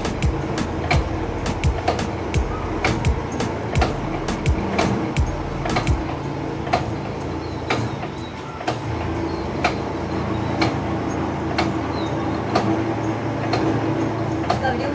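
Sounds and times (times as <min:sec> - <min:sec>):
lathe motor and gear hum: 0:00.0 - 0:14.9.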